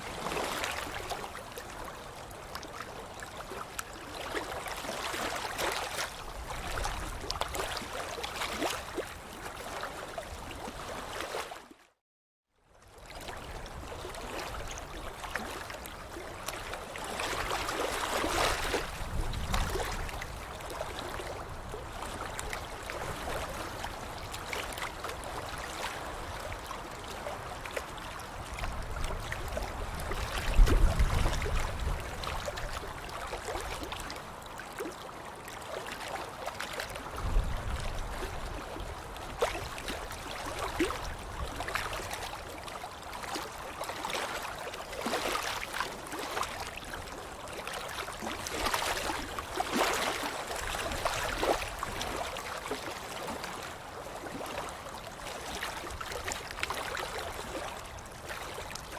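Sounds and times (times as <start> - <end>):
water splashing and sloshing: 0.0 - 12.0, 12.8 - 58.9.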